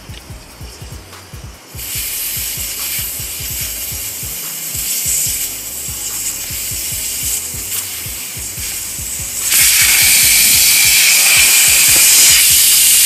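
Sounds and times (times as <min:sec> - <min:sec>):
air hissing out of tire: 0:00.0 - 0:13.0.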